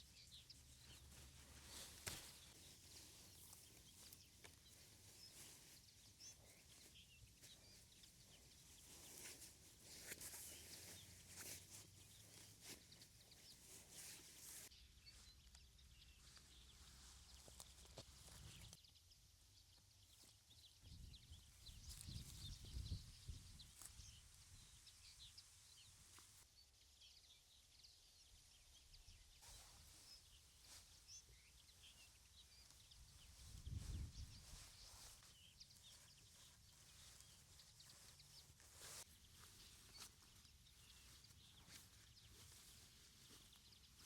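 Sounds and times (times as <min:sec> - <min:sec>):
faint high bird chirps: 0:00.0 - 0:44.0.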